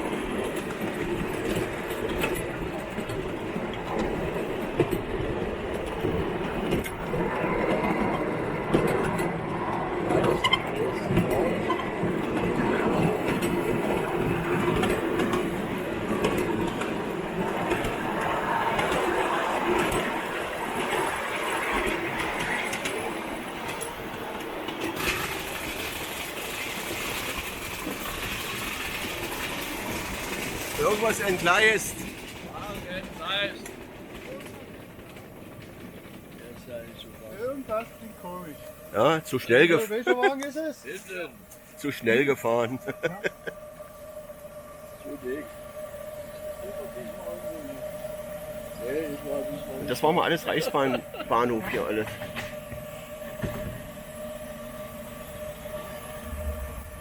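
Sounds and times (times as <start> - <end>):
model train rolling rumble: 0.0 - 57.0
wheels clicking on rails: 0.0 - 57.0.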